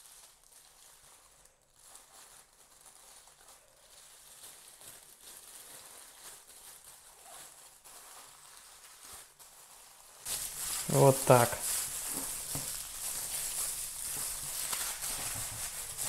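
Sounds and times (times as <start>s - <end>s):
plastic sleeve crinkling: 0.0s - 16.0s.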